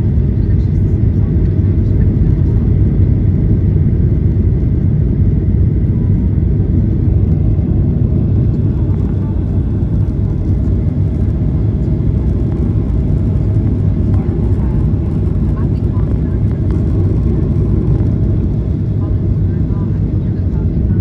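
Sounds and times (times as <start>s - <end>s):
jet engine and airflow rumble: 0.0s - 21.0s.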